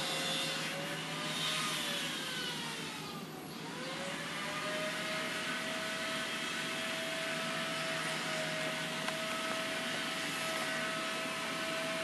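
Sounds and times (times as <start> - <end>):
motor whirring: 0.0 - 12.0.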